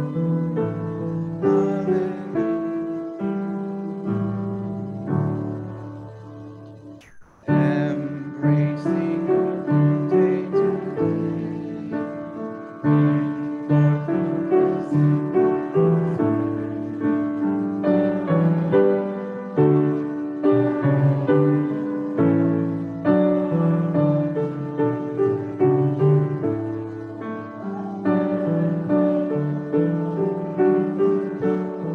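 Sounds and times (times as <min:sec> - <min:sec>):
grand piano playing: 0:00.0 - 0:31.9.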